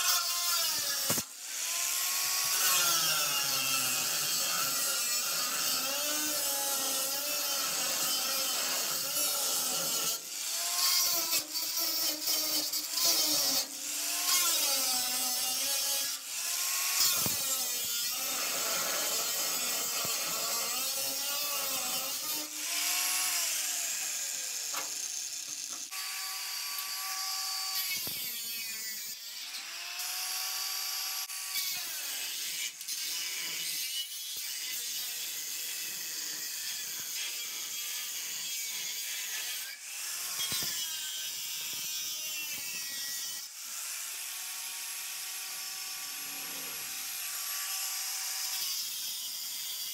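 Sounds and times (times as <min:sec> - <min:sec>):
angle grinder cutting metal: 0:00.0 - 0:49.9.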